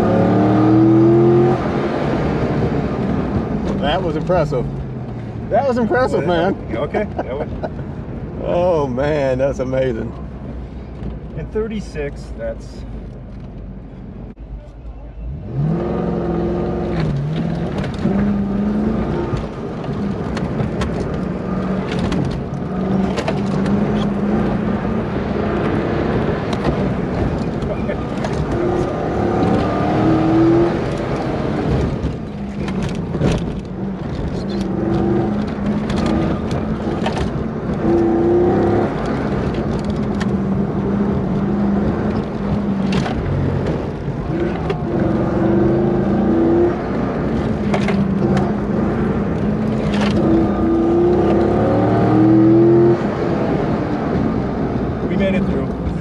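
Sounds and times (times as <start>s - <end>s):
car engine revving: 0.0s - 10.4s, 15.3s - 56.0s.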